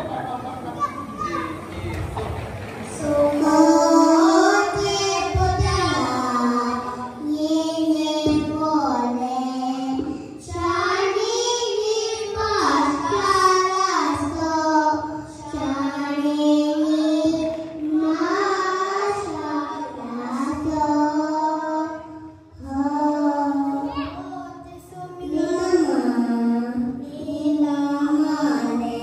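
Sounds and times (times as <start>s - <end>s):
child singing into a microphone: 2.9s - 29.0s.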